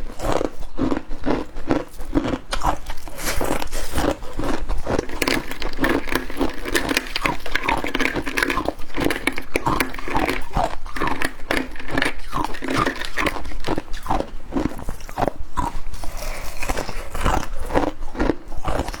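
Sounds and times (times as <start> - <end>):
person chewing ice: 0.0 - 19.0.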